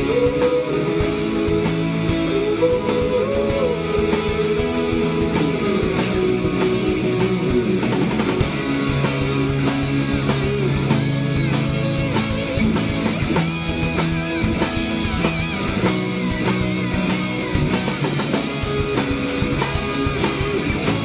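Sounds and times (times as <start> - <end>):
drum kit: 0.0 - 21.0
electric guitar: 0.0 - 21.0
rock band playing live: 0.0 - 21.0.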